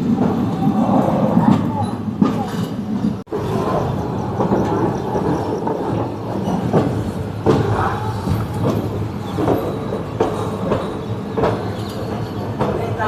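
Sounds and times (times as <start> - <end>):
train rumbling: 0.0 - 13.0
wheels clacking over rail joints: 0.0 - 13.0.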